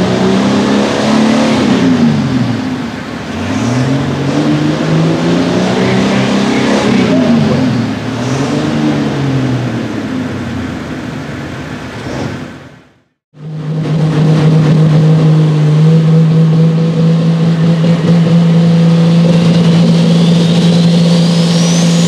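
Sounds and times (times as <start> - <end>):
tractor engine revving: 0.0 - 10.7, 13.4 - 22.0.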